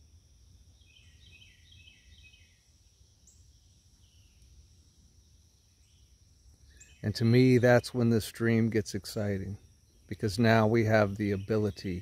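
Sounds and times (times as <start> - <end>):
steady high hum: 0.0 - 12.0
bird chirping: 0.5 - 12.0.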